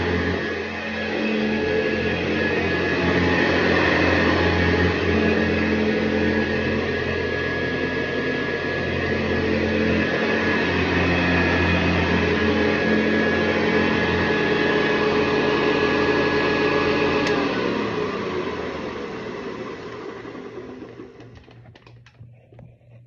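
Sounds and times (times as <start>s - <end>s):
vacuum cleaner motor whine: 0.0s - 22.8s.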